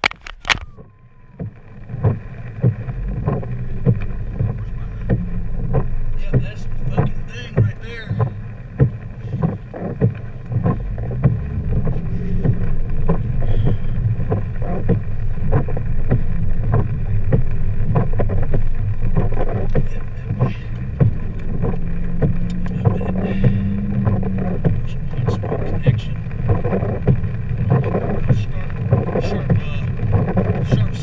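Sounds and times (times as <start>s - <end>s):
road and engine rumble: 0.0s - 31.0s
windshield wipers running: 0.0s - 31.0s.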